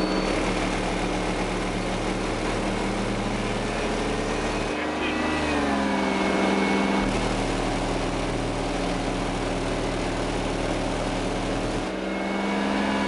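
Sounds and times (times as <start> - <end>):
distorted low bass tone: 0.0 - 12.4.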